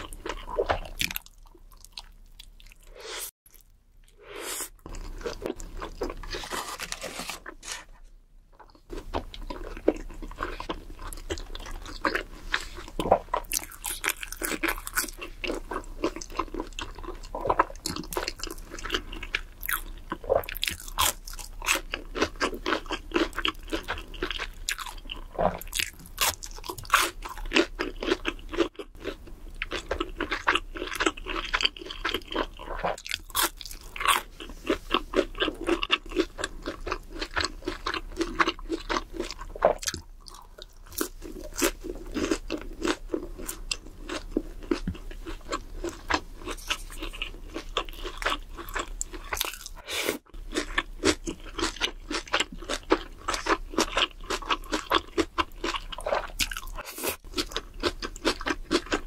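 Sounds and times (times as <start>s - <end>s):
crunching and chewing fried food: 0.0s - 7.9s, 8.6s - 59.0s.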